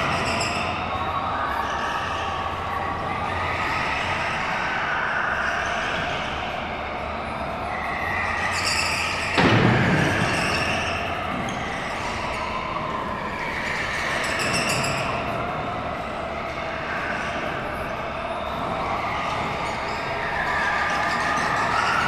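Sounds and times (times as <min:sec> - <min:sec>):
go-kart motors: 0:00.0 - 0:22.0.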